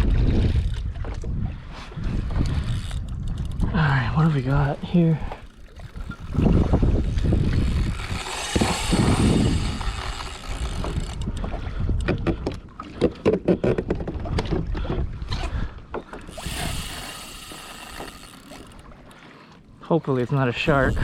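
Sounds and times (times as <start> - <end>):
wind on microphone: 0.0 - 19.0, 20.5 - 21.0
water around kayak: 0.0 - 21.0.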